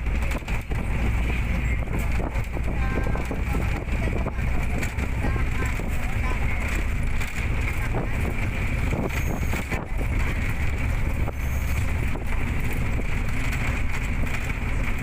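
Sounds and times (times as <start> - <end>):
vehicle rumble inside cabin: 0.0 - 15.0
wind noise on microphone: 0.0 - 15.0.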